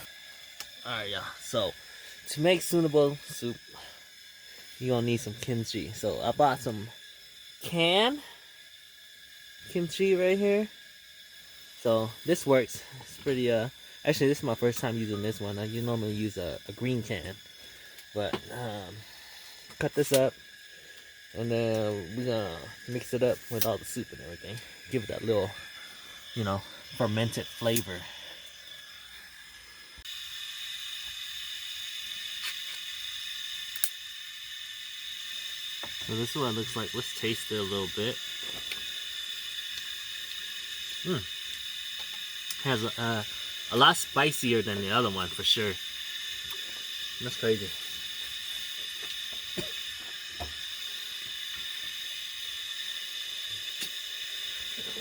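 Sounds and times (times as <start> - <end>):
camp stove burner hissing: 0.0 - 55.0.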